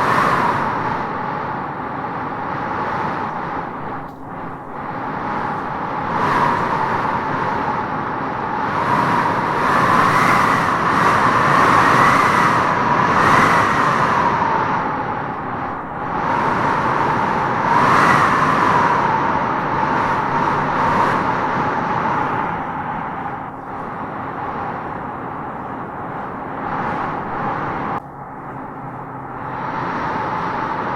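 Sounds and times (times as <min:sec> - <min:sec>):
wind howling through trees: 0:00.0 - 0:30.9.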